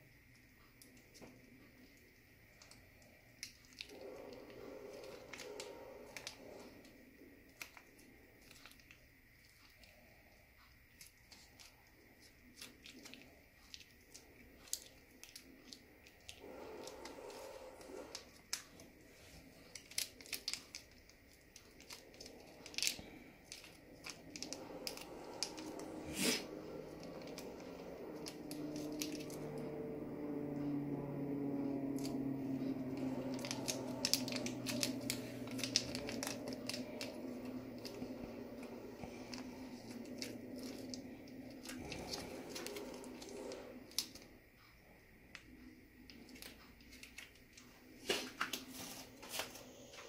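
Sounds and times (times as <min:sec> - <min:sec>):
plastic sachet crinkling: 0:00.8 - 0:30.0, 0:31.9 - 0:44.4, 0:45.4 - 0:49.6.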